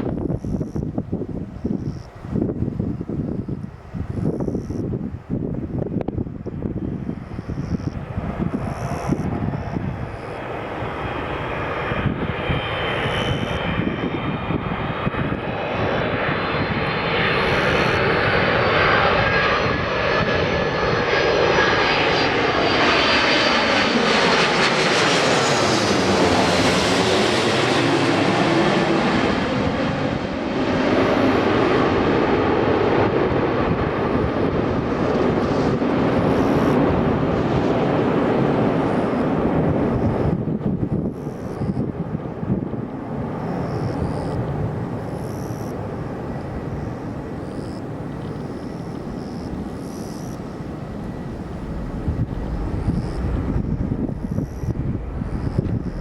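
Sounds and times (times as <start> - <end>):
jet engine noise: 0.0 - 56.0
whining fan tones: 0.0 - 56.0.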